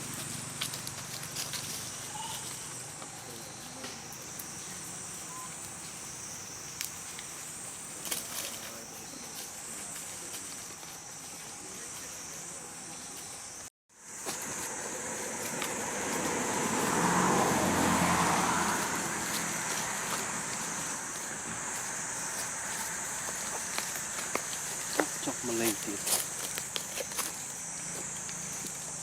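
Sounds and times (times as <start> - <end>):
insects droning high-pitched: 0.0 - 29.0.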